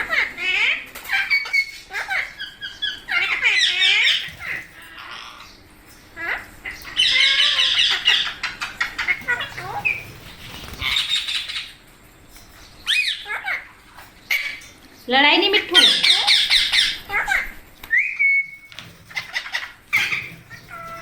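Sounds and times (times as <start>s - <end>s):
parrots squawking and screeching: 0.0s - 21.0s.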